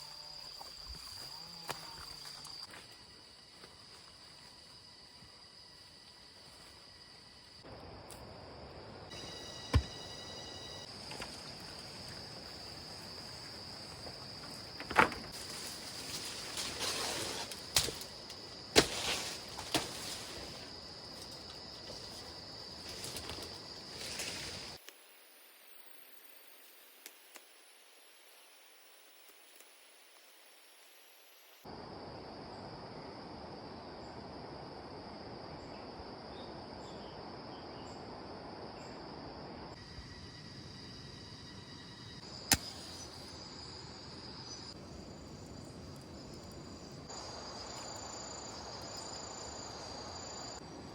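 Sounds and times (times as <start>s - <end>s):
crickets trilling: 0.0s - 50.9s
insects droning: 0.0s - 50.9s.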